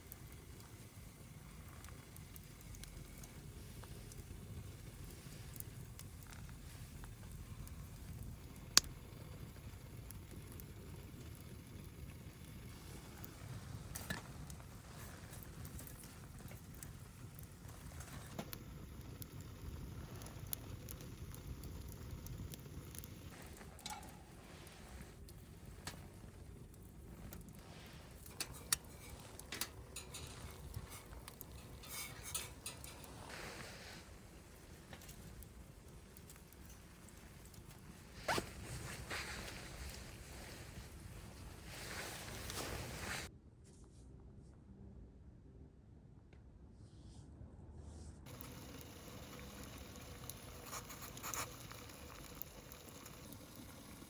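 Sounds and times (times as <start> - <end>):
fire popping: 0.0 - 43.3, 48.2 - 54.0
wood fire crackling: 0.0 - 43.3, 48.2 - 54.0.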